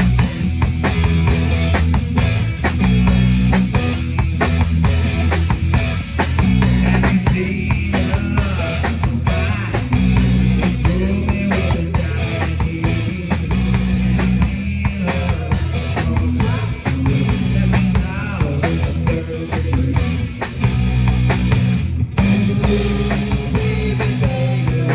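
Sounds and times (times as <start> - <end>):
drum kit beat: 0.0 - 24.9
electric guitar: 0.0 - 24.9.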